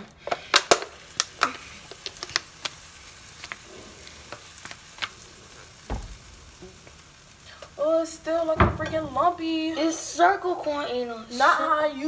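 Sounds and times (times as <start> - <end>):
batter sizzling on a hot pan: 0.3 - 12.0.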